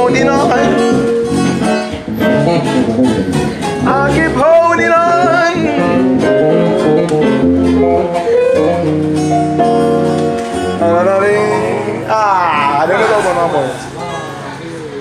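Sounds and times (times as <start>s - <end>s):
electric guitar: 0.0s - 13.2s
stage keyboard playing: 0.0s - 15.0s.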